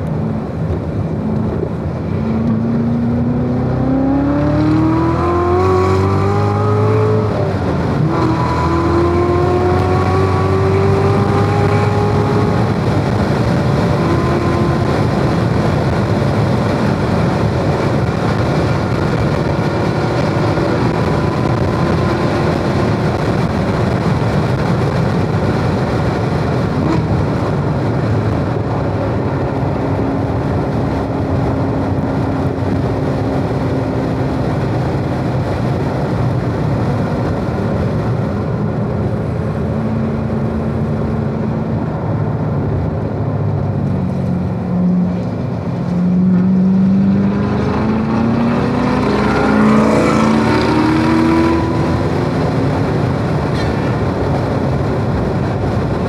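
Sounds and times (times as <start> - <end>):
car engine running hard: 0.0 - 56.0
wind and tyre noise: 0.0 - 56.0.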